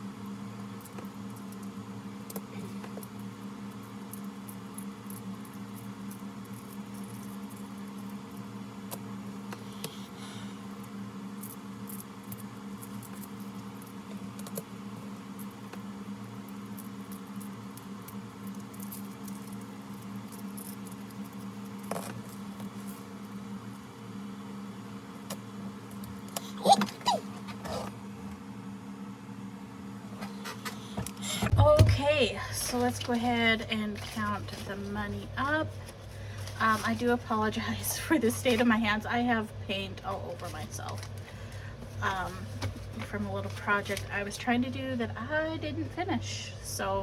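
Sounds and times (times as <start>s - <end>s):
low hum of room noise: 0.0s - 47.0s.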